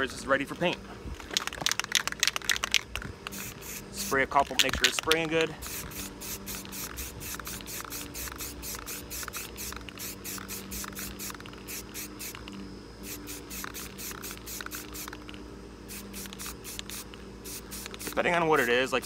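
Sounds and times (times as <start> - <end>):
spray paint can shaking: 1.2 - 18.9.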